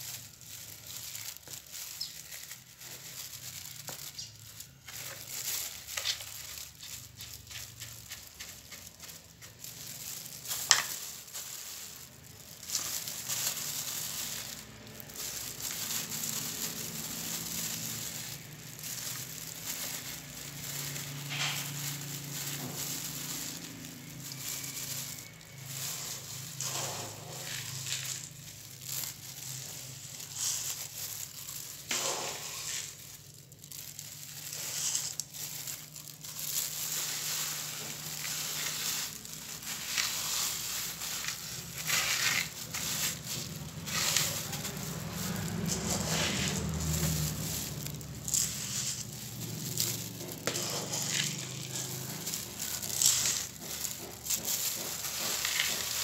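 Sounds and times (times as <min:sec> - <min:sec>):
clay pebbles crunching: 0:00.0 - 0:56.0
plastic glove crinkling: 0:00.0 - 0:56.0.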